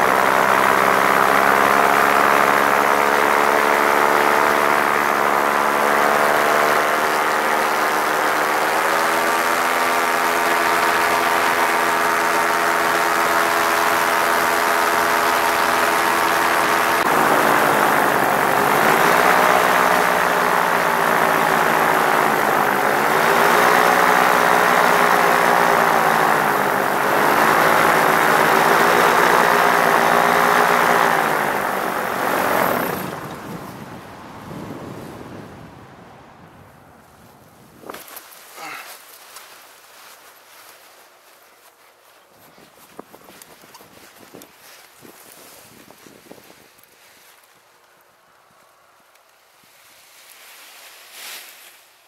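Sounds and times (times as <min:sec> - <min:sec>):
paramotor engine and propeller: 0:00.0 - 0:36.9, 0:37.8 - 0:49.3.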